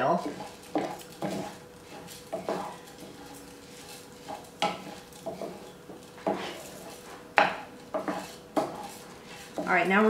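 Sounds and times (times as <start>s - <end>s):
rice rustling in a pan: 0.0s - 10.0s
spatula scraping a pan: 0.0s - 10.0s.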